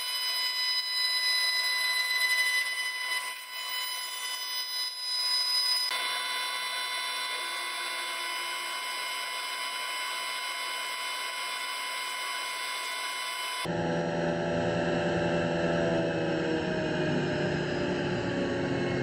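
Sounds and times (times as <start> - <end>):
router spindle high whine: 0.0 - 19.0.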